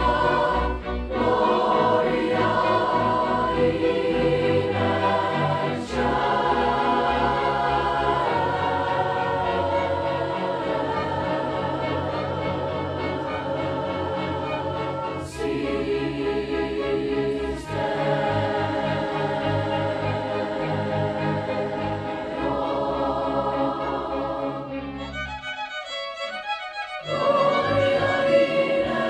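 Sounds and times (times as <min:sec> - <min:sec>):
choir singing held chords: 0:00.0 - 0:25.2, 0:27.0 - 0:29.0.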